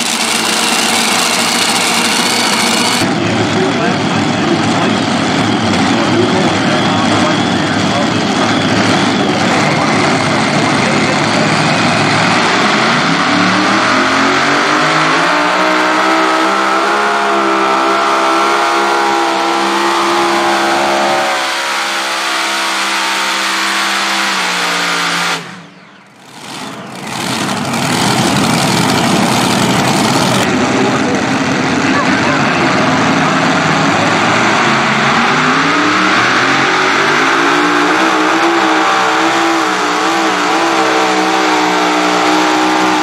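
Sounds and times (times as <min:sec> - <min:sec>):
pulling tractor engine at full power: 0:00.0 - 0:43.0.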